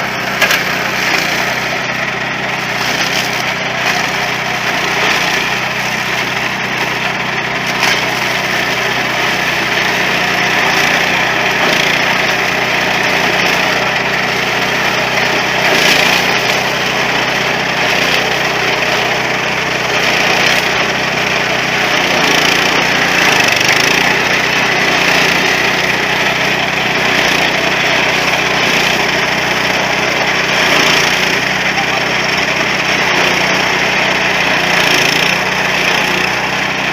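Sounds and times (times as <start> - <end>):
combine harvester engine hum: 0.0 - 36.9.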